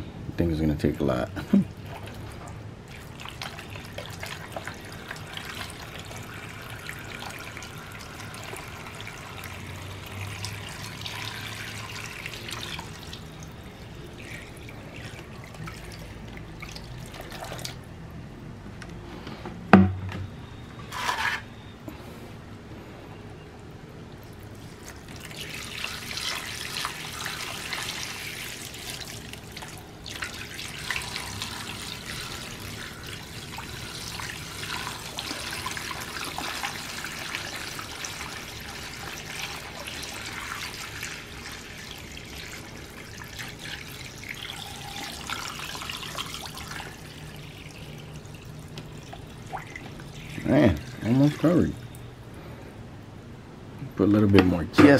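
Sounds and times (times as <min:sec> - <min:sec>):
liquid pouring and splashing: 0:01.8 - 0:17.9, 0:24.2 - 0:52.1.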